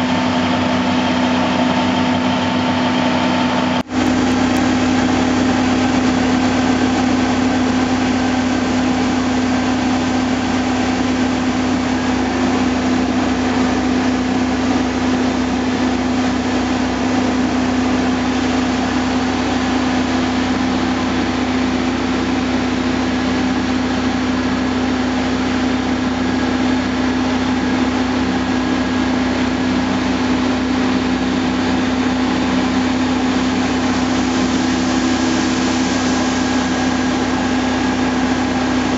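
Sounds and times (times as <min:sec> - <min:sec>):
heavy diesel engines humming: 0:00.0 - 0:38.9.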